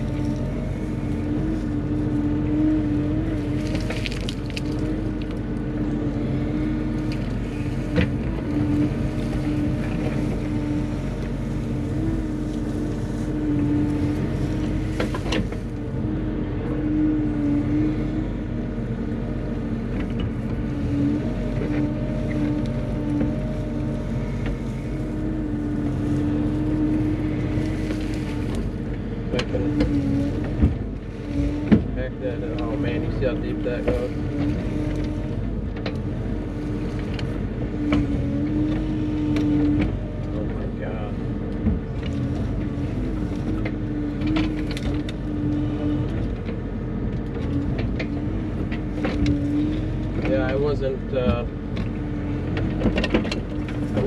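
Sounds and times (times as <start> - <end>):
diesel excavator engine running: 0.0 - 54.0.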